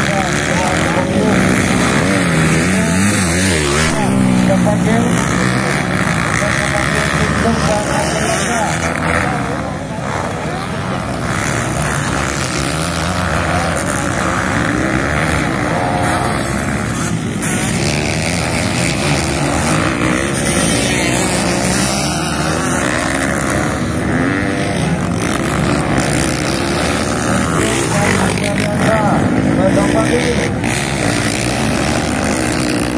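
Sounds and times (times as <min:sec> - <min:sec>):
dirt bike engines revving: 0:00.0 - 0:32.9.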